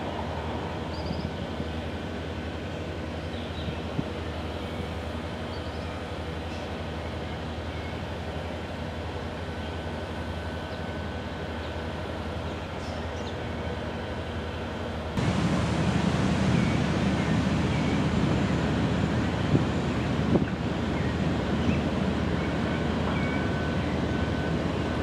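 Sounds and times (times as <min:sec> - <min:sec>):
ship engine rumble: 0:00.0 - 0:25.0.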